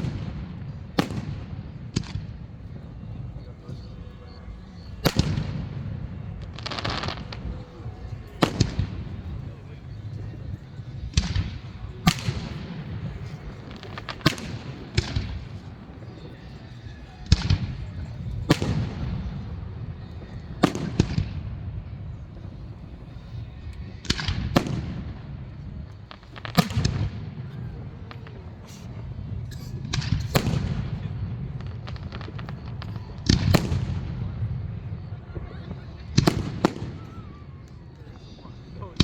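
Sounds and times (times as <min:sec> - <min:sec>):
fireworks bursting with sharp bangs: 0:00.0 - 0:39.0
fireworks crackle: 0:00.0 - 0:39.0.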